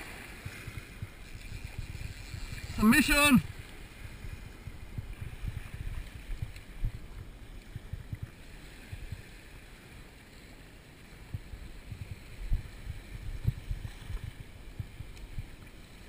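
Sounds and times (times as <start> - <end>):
wind buffeting microphone: 0.0 - 9.6, 11.2 - 16.0
shallow sea water washing: 0.0 - 16.0.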